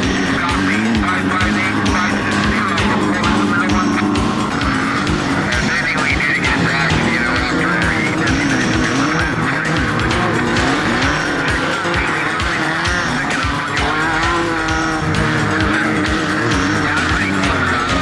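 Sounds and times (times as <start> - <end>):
car engine revving: 0.0 - 18.0
irregular thumps: 0.0 - 18.0.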